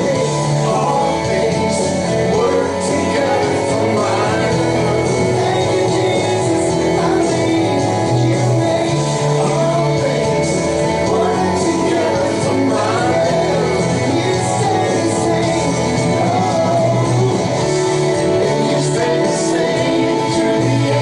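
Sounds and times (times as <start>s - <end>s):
guitar: 0.0s - 21.0s
person singing: 0.0s - 21.0s
worship band playing: 0.0s - 21.0s.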